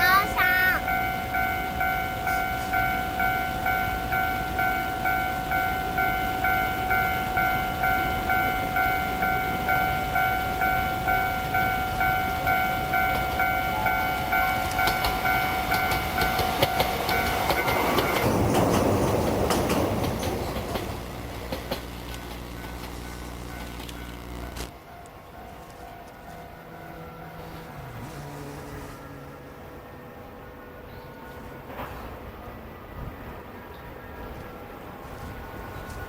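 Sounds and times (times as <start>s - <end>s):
level crossing warning bell: 0.0s - 34.9s
railcar wheel clicks and rumble: 0.0s - 36.0s.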